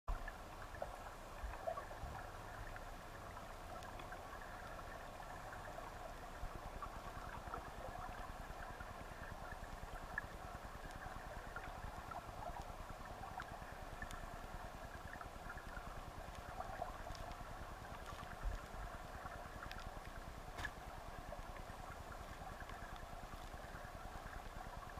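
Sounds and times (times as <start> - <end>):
faint ticks and crackles of bubbles: 0.1 - 24.9
muffled underwater water rush: 0.1 - 24.9.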